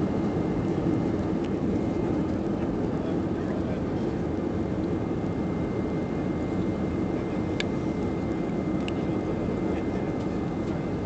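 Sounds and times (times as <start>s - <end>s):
jet engines and airflow drone: 0.0s - 11.0s.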